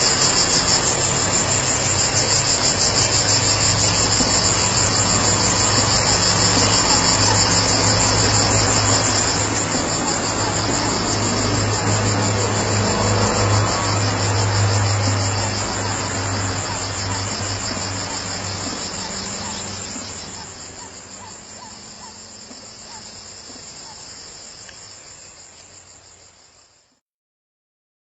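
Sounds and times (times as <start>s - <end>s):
insects trilling: 0.0s - 26.9s.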